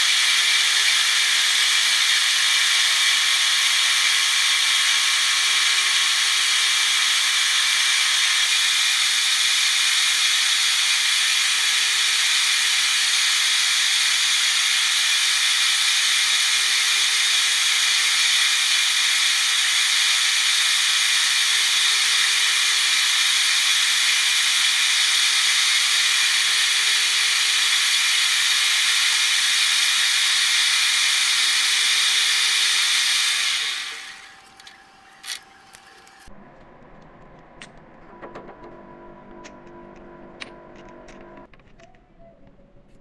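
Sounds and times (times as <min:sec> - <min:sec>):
metalworking machine hissing: 0:00.0 - 0:36.3.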